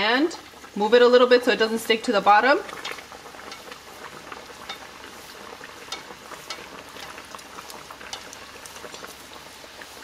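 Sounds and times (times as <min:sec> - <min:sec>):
food deep-frying in bubbling oil: 0:00.0 - 0:10.0
oil crackles and pops: 0:00.0 - 0:10.0.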